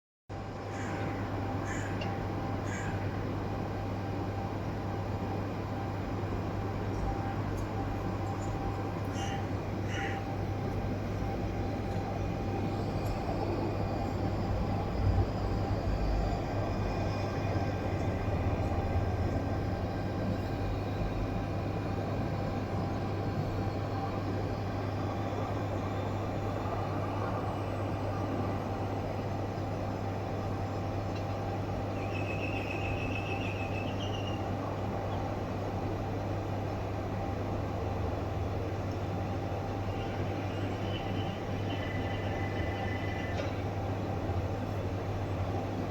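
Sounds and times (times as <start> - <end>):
low mechanical hum and rumble: 0.3 - 45.9.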